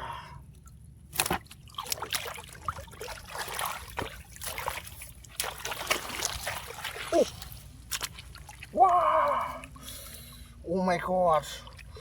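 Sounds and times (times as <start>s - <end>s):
muddy water splashing and sloshing: 0.4s - 12.0s.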